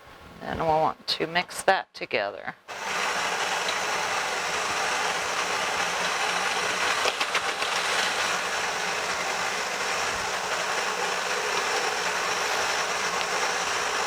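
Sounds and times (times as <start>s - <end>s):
electric mixer running: 2.7s - 14.0s.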